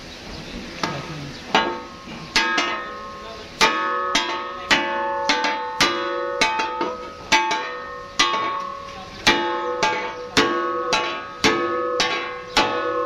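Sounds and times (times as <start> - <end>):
hammer striking metal propeller: 1.6 - 13.0
metal blade ringing: 1.6 - 13.0.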